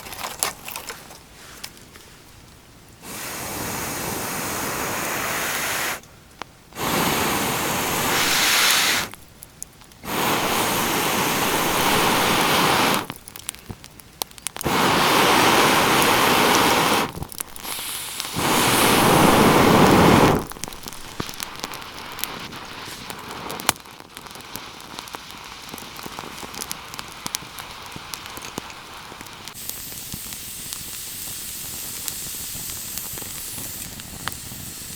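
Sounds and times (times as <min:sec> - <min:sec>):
campfire crackling and snapping: 0:00.0 - 0:34.9
loud steady hiss: 0:00.0 - 0:34.9.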